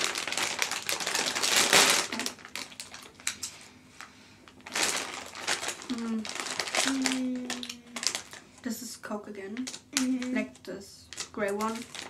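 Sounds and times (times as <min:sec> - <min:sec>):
plastic packaging crinkling: 0:00.0 - 0:03.7, 0:04.4 - 0:08.6, 0:09.4 - 0:12.0.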